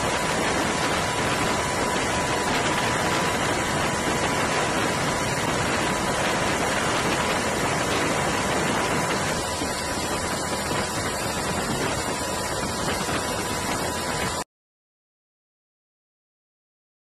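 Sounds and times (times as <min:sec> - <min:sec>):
faint steady whine: 0:00.0 - 0:14.4
wind rushing: 0:00.0 - 0:14.4
aircraft engine: 0:00.0 - 0:14.5.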